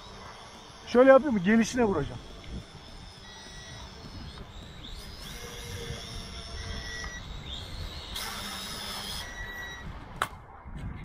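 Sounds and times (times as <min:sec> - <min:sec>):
drone propellers whining: 0:00.0 - 0:10.4.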